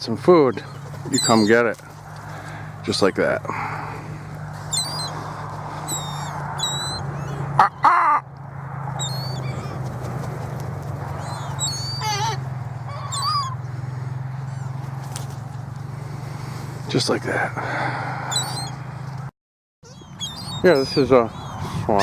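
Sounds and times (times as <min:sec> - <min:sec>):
seagulls calling: 0:00.0 - 0:08.3, 0:08.9 - 0:18.9, 0:19.8 - 0:22.0.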